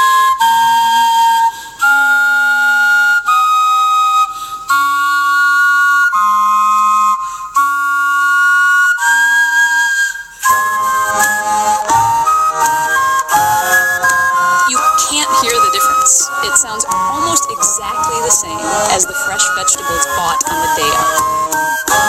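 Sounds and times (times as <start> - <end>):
vegetable wind instruments playing: 0.0 - 22.0.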